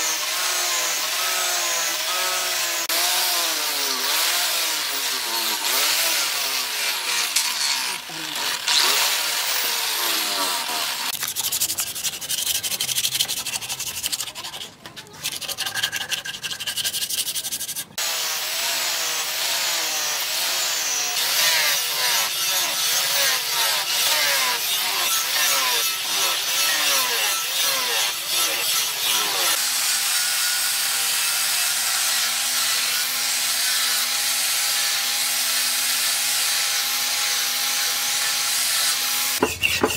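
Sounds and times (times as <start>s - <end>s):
angle grinder sanding: 0.0s - 39.9s.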